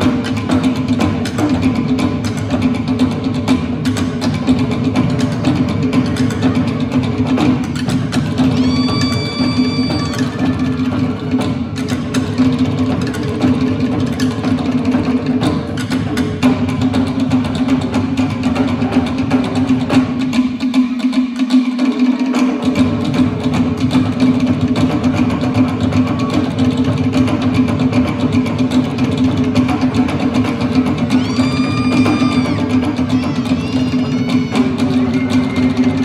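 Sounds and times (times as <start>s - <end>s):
deep skin drum: 0.0s - 36.0s
slit drums beaten rapidly: 0.0s - 36.0s.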